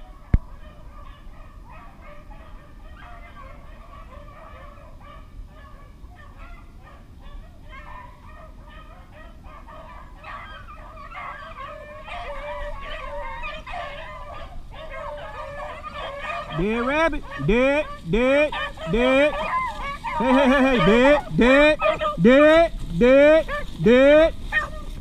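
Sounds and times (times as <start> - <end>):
dogs baying: 0.0 - 25.0.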